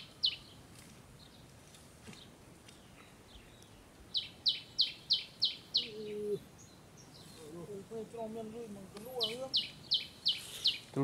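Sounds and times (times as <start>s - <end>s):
small bird calling: 0.0s - 0.6s, 2.2s - 11.0s.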